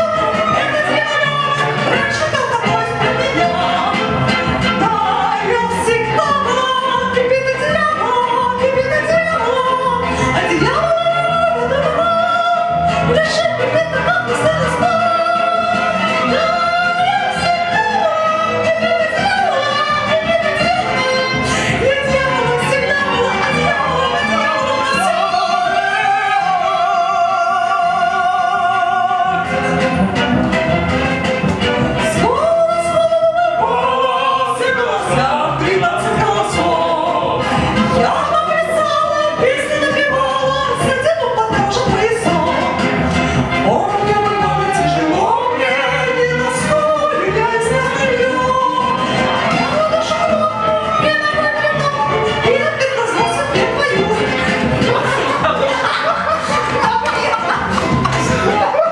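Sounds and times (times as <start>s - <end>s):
instrumental accompaniment: 0.0s - 58.9s
woman singing with vibrato: 0.0s - 58.9s.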